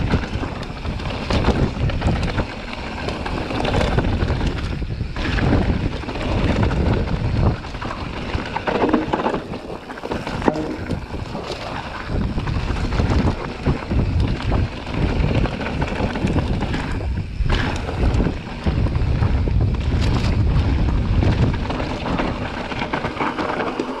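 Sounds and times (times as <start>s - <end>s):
bike rattling and knocking: 0.0s - 24.0s
tyres rumbling on dirt: 0.0s - 24.0s
wind on microphone: 0.0s - 24.0s.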